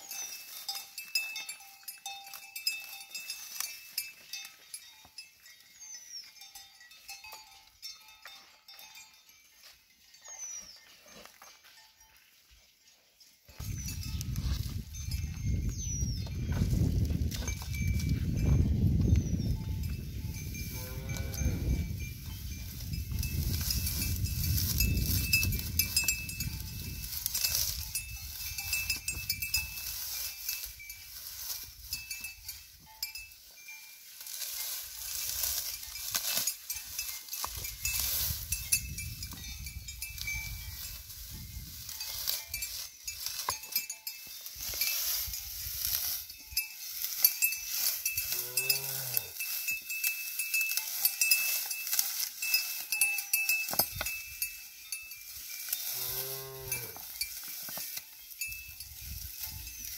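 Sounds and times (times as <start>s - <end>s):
grass rustling and crunching: 0.0s - 59.9s.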